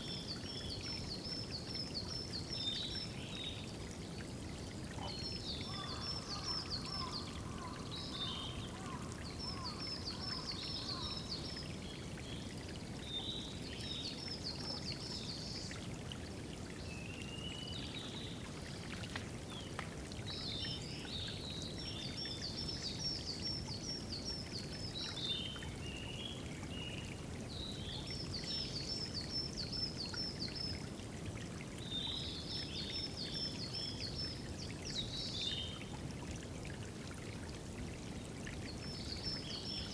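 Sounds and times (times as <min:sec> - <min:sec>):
running water trickling: 0:00.1 - 0:39.9.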